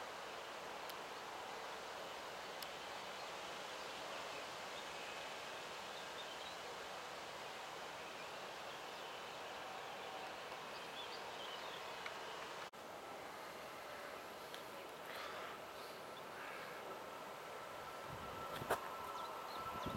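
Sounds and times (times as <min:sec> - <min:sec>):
rustling trees: 0:00.0 - 0:19.9.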